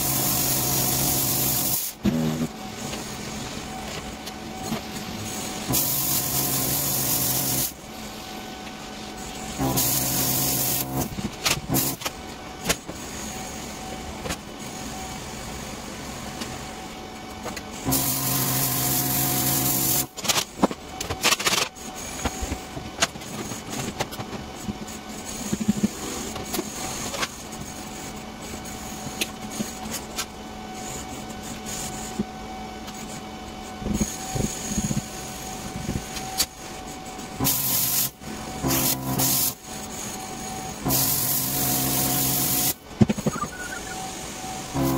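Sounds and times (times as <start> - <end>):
welding arc crackling and buzzing: 0.0 - 14.9, 17.4 - 32.2, 32.9 - 44.9
steady hum: 0.0 - 44.9.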